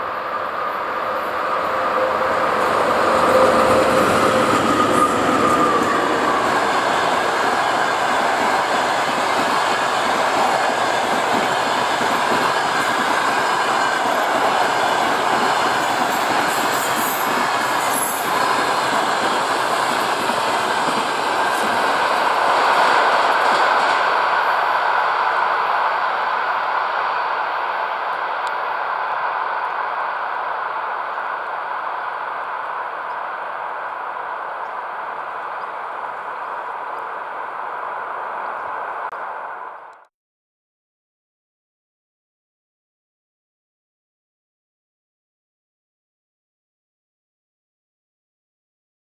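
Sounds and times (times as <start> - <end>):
train wheels rolling on rails: 0.0 - 40.0
electric locomotive hum: 0.0 - 40.1.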